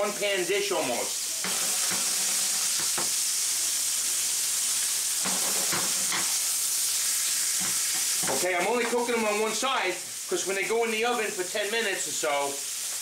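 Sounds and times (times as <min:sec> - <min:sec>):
steaks sizzling in a frying pan: 0:00.0 - 0:13.0.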